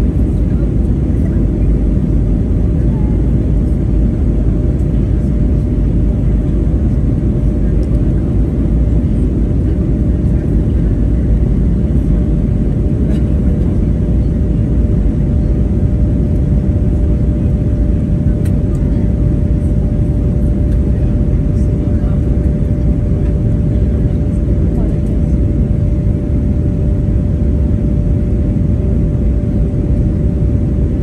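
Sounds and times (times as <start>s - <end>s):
airliner cabin drone: 0.0s - 31.0s.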